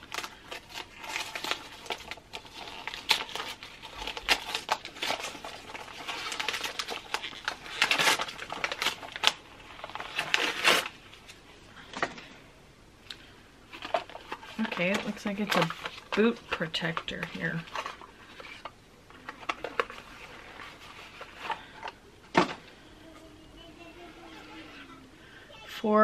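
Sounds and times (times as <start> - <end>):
packaging crinkling and tapping: 0.0 - 12.2, 13.1 - 22.6.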